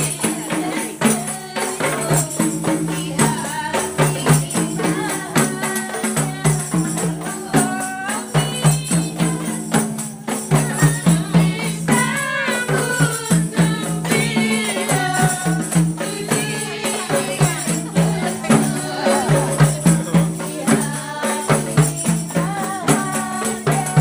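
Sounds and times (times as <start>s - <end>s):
frame drums beating: 0.0s - 24.0s
tambourines jingling: 0.0s - 24.0s
women singing: 0.0s - 24.0s.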